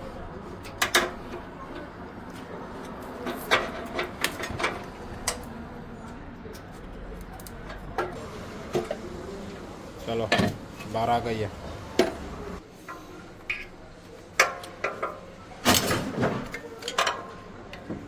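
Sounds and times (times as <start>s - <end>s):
low workshop background: 0.0s - 18.0s.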